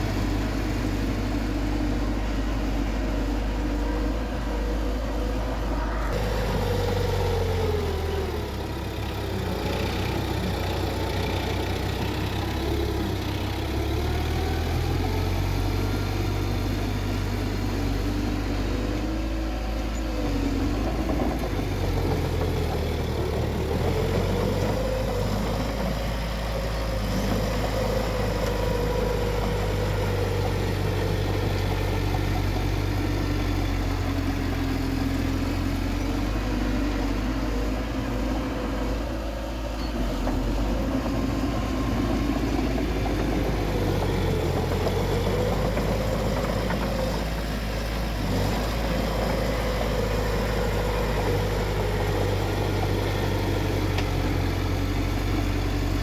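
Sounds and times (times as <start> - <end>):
heavy machine diesel engine running: 0.0 - 56.0.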